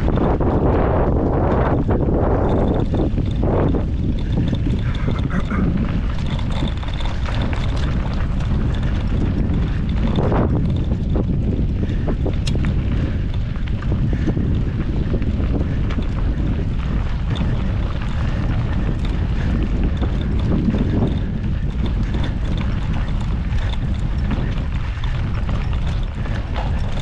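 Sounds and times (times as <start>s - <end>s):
bike clicks and knocks: 0.0s - 27.0s
tyres rumbling on trail: 0.0s - 27.0s
wind buffeting microphone: 0.0s - 27.0s.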